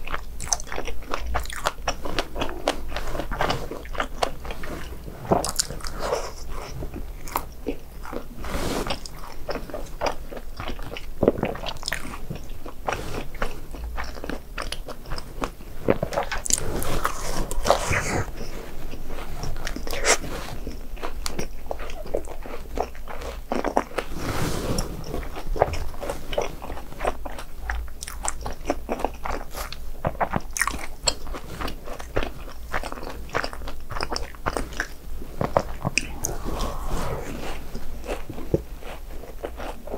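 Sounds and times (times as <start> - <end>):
chewing crunchy snacks: 0.0 - 24.1, 25.0 - 34.9.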